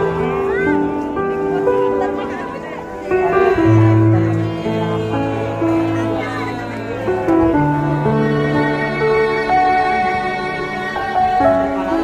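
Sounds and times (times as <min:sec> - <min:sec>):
slow melody of held notes: 0:00.0 - 0:12.0.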